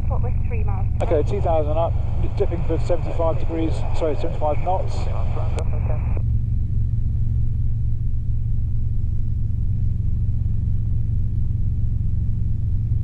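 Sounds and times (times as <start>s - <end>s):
helicopter engine and rotors droning: 0.0s - 13.0s.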